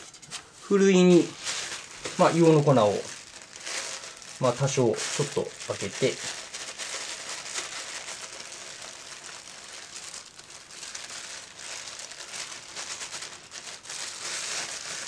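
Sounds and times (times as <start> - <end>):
packaging rustling: 0.1 - 15.0.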